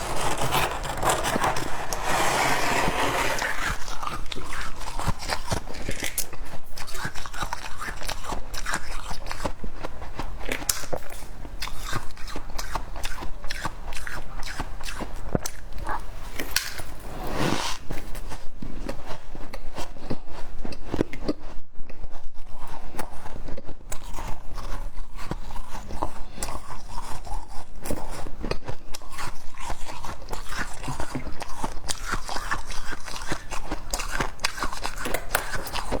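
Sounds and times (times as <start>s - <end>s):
crunchy chewing of frost: 0.0s - 16.6s, 17.3s - 36.0s.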